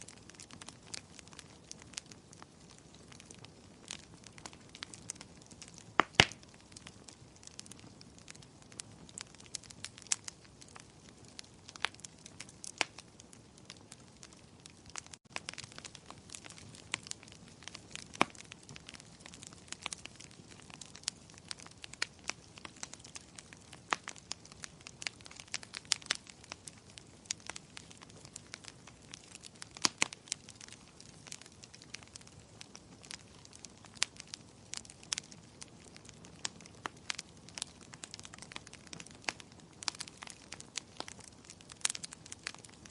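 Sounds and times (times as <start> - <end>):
fire hissing softly: 0.0 - 42.9
wood fire crackling and popping: 0.0 - 42.9.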